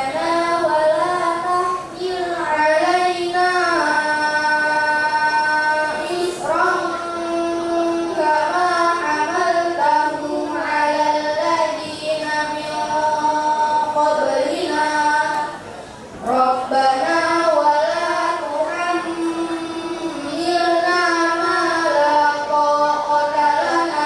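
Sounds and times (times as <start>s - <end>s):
children chanting melodically: 0.0s - 24.0s.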